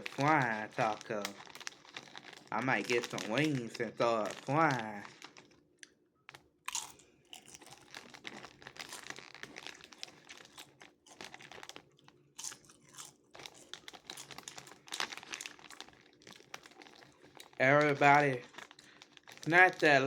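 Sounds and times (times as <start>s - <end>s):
chip bag crinkling: 0.0s - 5.7s, 6.3s - 20.0s
chewing and crunching chips: 0.0s - 20.0s.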